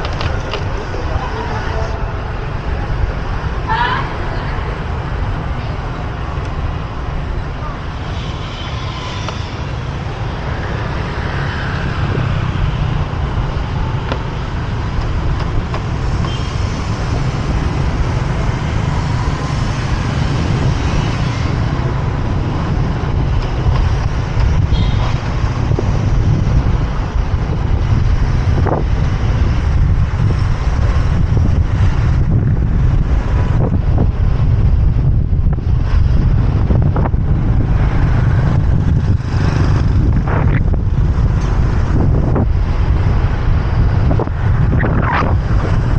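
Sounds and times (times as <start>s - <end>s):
city road traffic: 0.0s - 45.9s
wind rumbling on microphone: 0.0s - 45.9s.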